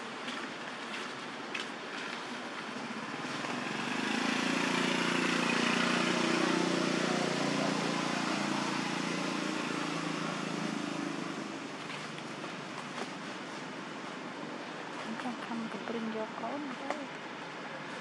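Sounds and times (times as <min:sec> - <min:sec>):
vehicle engine hum passing: 0:01.9 - 0:18.0.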